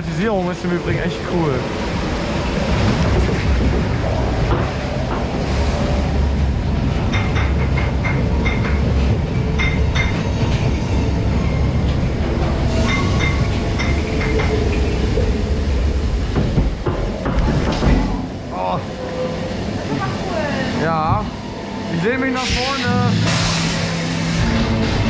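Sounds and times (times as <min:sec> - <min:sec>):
low rumble of ride machinery: 0:00.0 - 0:25.0.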